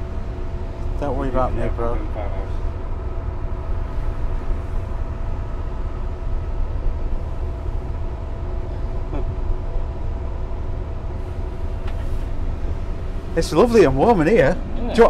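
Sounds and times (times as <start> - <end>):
diesel locomotive engine idling: 0.0 - 15.0.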